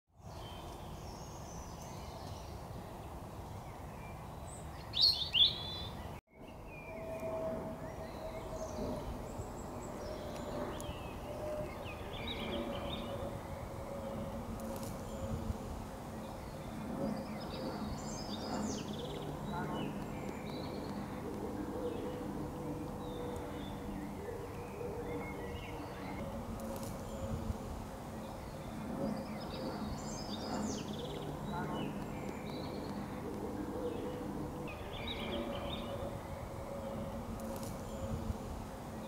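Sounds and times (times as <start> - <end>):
small birds chirping: 3.5 - 39.0
faint steady hum: 5.8 - 39.0
steady low rumble: 6.5 - 39.0.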